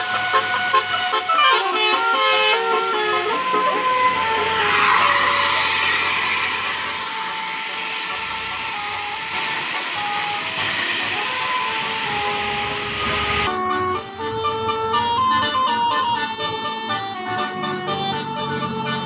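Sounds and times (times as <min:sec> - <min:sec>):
bus passing rushing: 0:00.0 - 0:19.0
multi-tone horn playing tune: 0:00.0 - 0:19.0.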